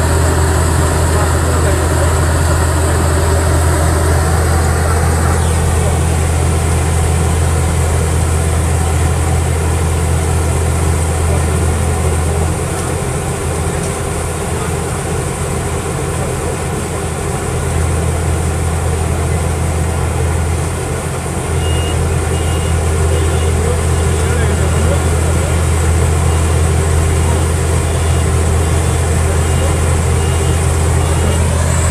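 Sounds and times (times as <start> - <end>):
combine harvester engine humming: 0.0 - 31.9.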